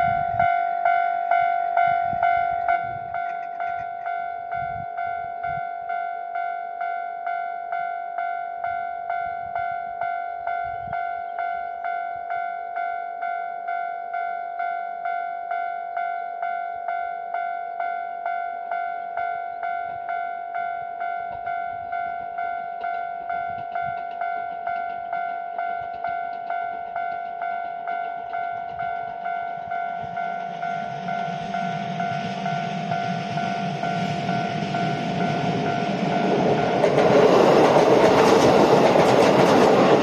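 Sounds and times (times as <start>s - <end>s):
approaching train: 0.0s - 13.4s, 15.9s - 40.0s
level-crossing warning bell ringing: 0.0s - 40.0s.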